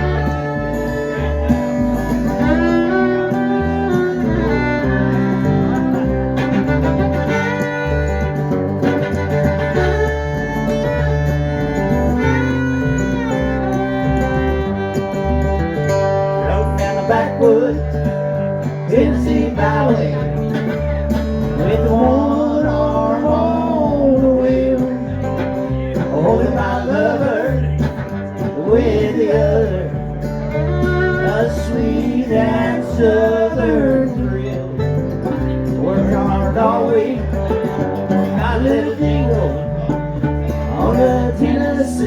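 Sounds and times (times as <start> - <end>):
bending string melody: 0.0 - 42.0
live country band playing: 0.0 - 42.0
steady bass: 0.0 - 42.0.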